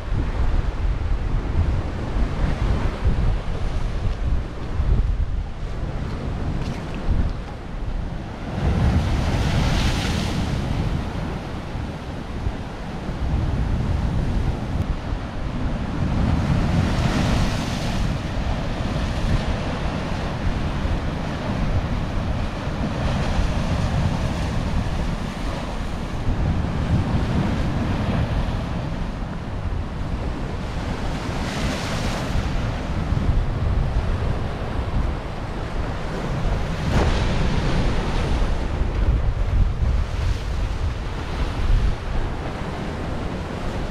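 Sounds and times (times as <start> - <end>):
wind rumble on microphone: 0.0 - 43.9.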